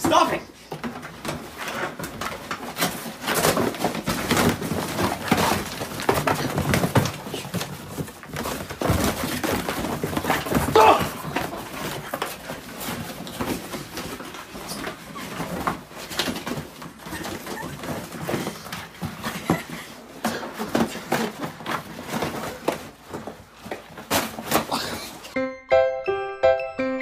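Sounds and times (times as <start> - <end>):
rustling: 0.2 - 25.4.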